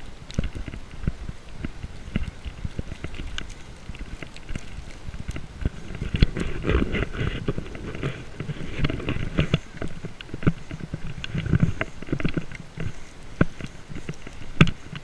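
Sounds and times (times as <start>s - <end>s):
footsteps crunching through snow: 0.0s - 15.0s
wind on microphone: 0.0s - 15.0s.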